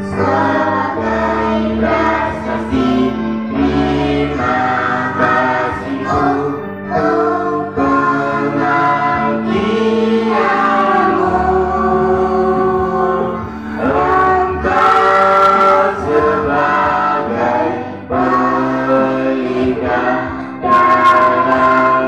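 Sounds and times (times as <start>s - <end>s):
children and man singing: 0.0s - 22.0s.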